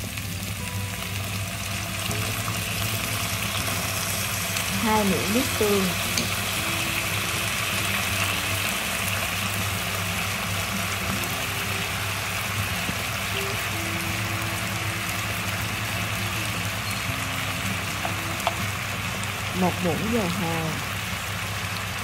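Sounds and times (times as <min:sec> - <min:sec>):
pork sizzling in a pot: 0:00.0 - 0:22.0
soft background music: 0:00.0 - 0:22.0.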